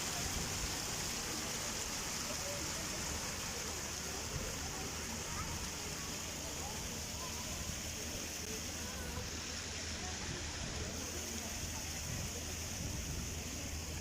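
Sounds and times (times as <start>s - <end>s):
even hiss: 0.0s - 14.0s
faint indistinct voices: 0.0s - 14.0s.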